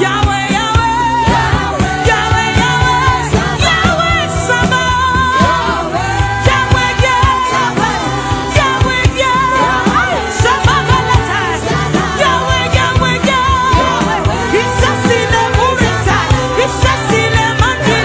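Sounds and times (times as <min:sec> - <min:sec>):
drums: 0:00.0 - 0:18.0
keyboard: 0:00.0 - 0:18.0
person singing: 0:00.0 - 0:18.0.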